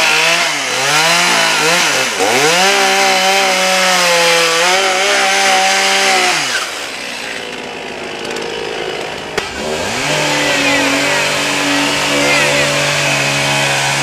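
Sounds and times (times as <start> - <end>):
chainsaw cutting wood: 0.0 - 14.0
motor revving: 0.0 - 14.0.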